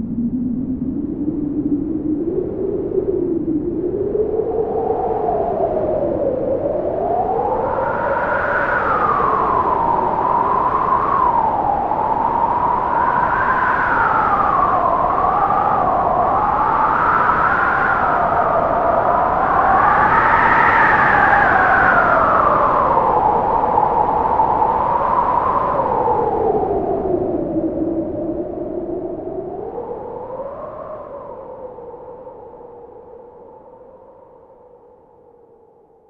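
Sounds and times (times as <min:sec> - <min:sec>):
howling wind: 0:00.0 - 0:36.0.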